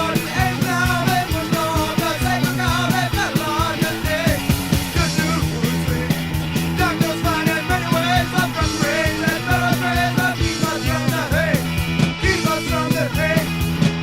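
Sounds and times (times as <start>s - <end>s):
person singing: 0.0s - 4.4s, 5.0s - 13.5s
bass guitar: 0.0s - 14.0s
drum beat: 0.0s - 14.0s.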